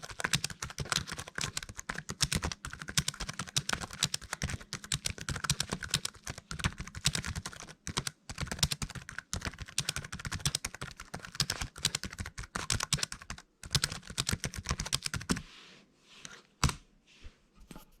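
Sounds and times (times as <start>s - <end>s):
fast typing on laptop keyboard: 0.0s - 15.4s.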